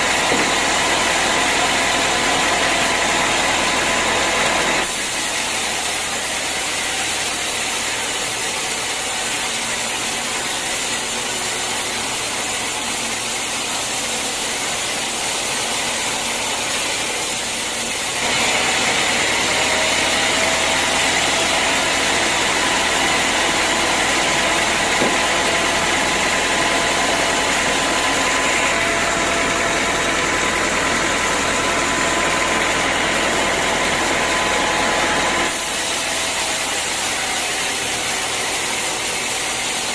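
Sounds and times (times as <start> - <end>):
sawmill running with whine: 0.0 - 39.9.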